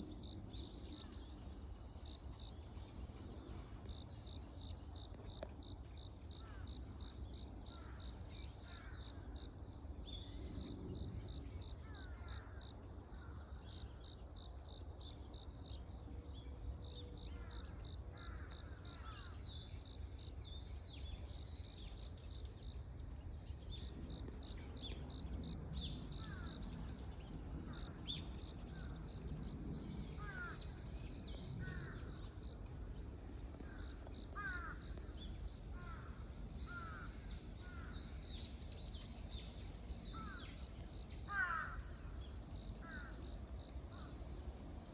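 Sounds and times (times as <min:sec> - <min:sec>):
insect chirping: 0:00.0 - 0:44.9.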